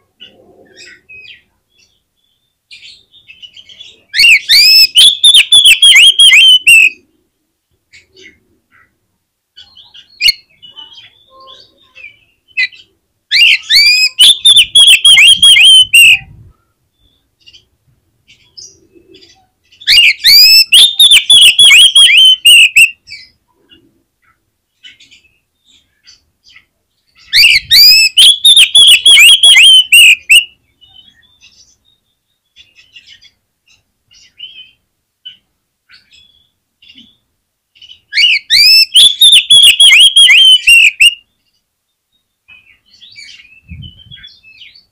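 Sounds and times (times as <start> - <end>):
faint bird chirps: 0.0 - 7.0, 9.6 - 17.7, 18.3 - 44.9.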